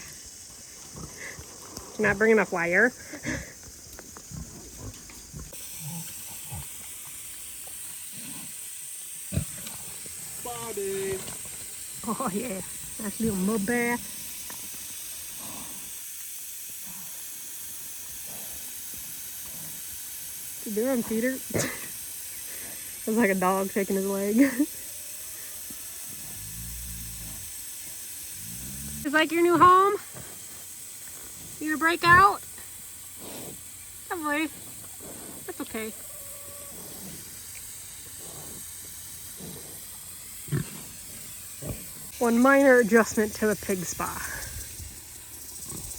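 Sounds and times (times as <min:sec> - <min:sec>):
water mister hissing: 0:00.0 - 0:45.9.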